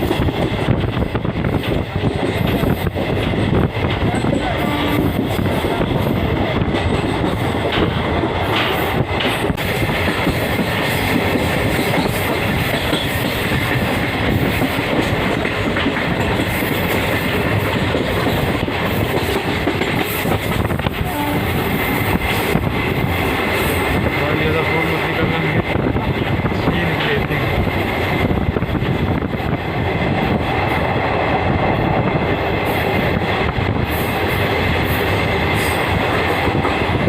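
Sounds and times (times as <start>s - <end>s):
rail clicks: 0.0s - 37.0s
train wheels rumbling on rails: 0.0s - 37.0s.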